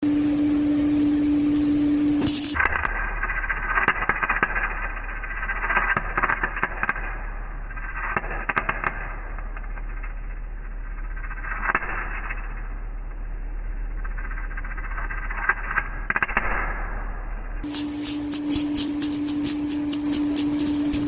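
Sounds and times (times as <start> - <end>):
electrical hum: 0.0 - 8.2, 9.0 - 21.0
welding arc crackling: 0.0 - 21.0.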